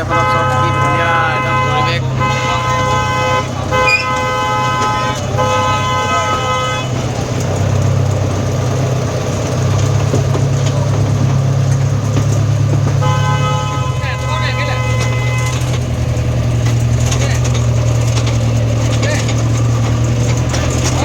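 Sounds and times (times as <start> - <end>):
train horn blasts: 0.0 - 8.8, 12.4 - 21.0
train running hum: 0.0 - 21.0.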